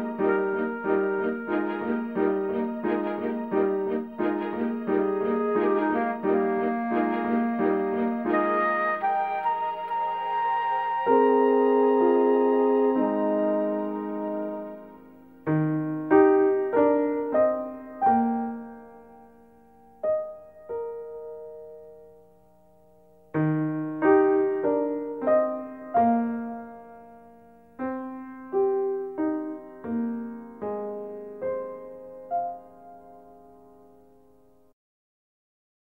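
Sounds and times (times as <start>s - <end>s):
gentle piano music: 0.0s - 34.7s.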